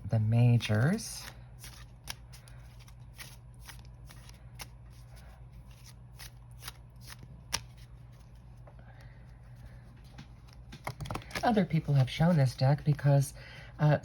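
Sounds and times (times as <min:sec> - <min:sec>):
cards being shuffled: 0:00.5 - 0:08.6, 0:09.6 - 0:13.2.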